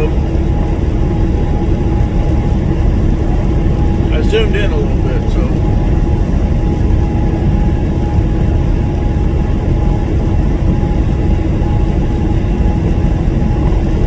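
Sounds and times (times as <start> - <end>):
faint steady hum: 0.0 - 14.0
road noise: 0.0 - 14.0
truck engine rumble: 0.0 - 14.0.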